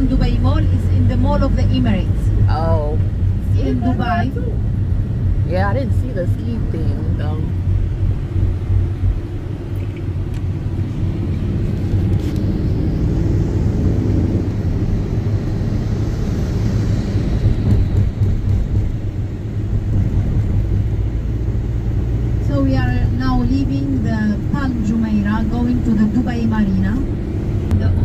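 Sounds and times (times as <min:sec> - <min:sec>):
road and engine rumble in vehicle: 0:00.0 - 0:28.0.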